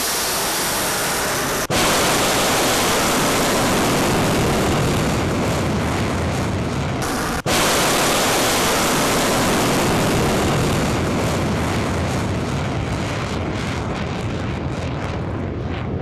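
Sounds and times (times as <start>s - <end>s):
rocket motor rushing noise: 0.0s - 13.0s.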